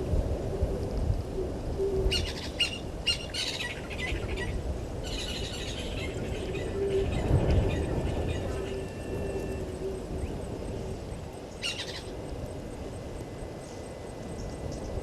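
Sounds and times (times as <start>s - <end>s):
low outdoor rumble: 0.0s - 15.0s
low bird calls: 0.6s - 15.0s.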